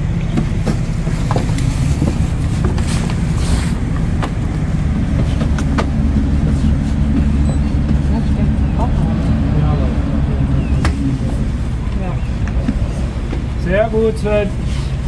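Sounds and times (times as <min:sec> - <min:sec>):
boat engine running low rumble: 0:00.0 - 0:15.0.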